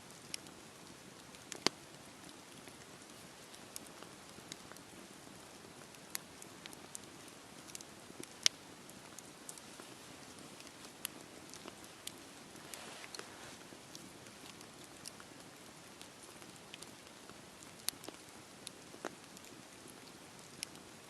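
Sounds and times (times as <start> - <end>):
steady rain hiss: 0.0 - 21.0
campfire pops and crackles: 0.1 - 21.0.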